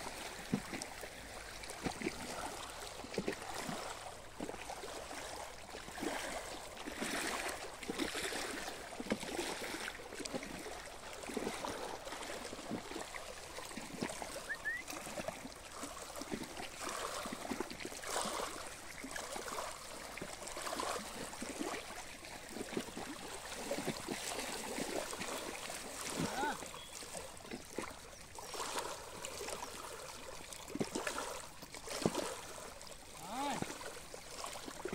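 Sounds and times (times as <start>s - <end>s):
small waves lapping: 0.0s - 34.9s.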